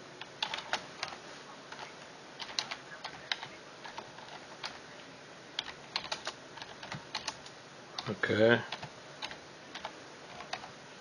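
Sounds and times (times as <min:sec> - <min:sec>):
computer keyboard typing: 0:00.3 - 0:04.8, 0:05.6 - 0:10.7.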